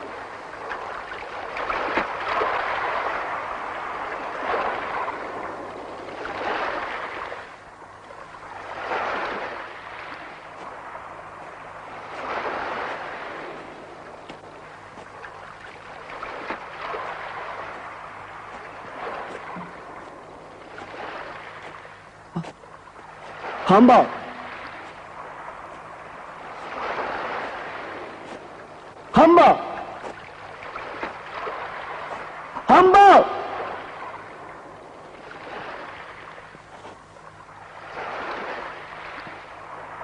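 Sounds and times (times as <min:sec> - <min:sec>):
waves washing in: 0:00.0 - 0:40.0.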